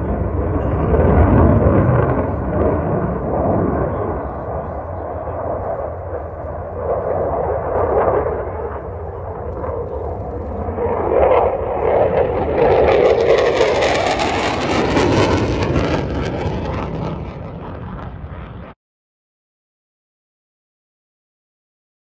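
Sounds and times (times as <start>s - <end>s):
fighter jet flying by: 0.0s - 18.8s.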